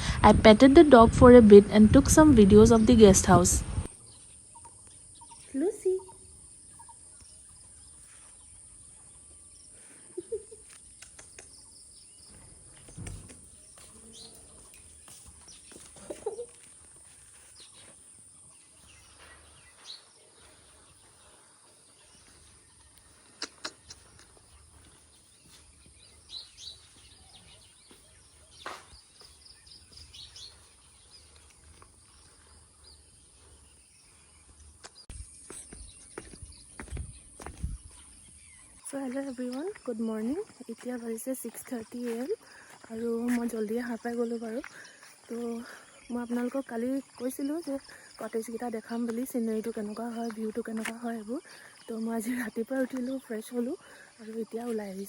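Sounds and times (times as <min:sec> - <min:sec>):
birds chirping faintly: 0:00.0 - 0:55.0.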